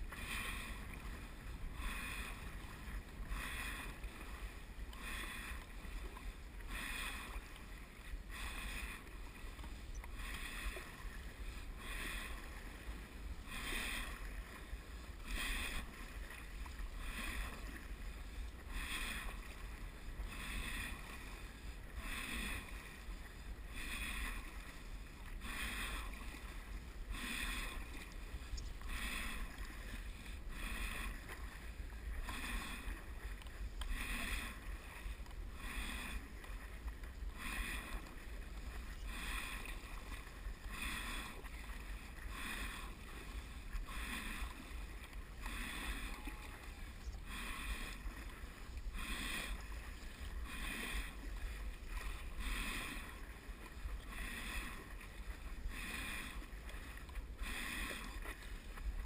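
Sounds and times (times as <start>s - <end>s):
paddle strokes in water: 0.0s - 59.0s.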